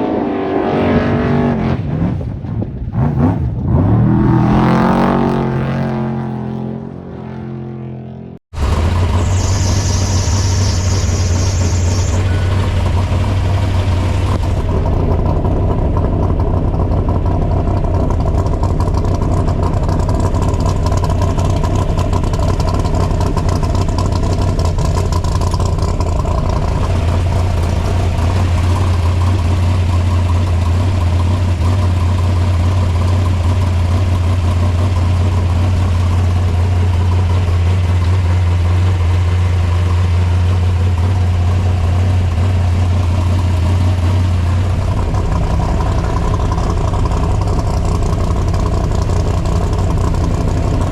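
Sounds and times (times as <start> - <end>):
road and wind noise: 0.0 - 50.9
vehicle engine running: 0.0 - 50.9.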